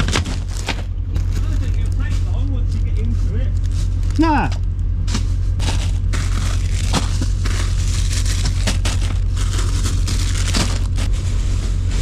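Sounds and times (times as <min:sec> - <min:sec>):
plastic bags crinkling: 0:00.0 - 0:04.3, 0:05.1 - 0:12.0
steady low hum: 0:00.0 - 0:12.0.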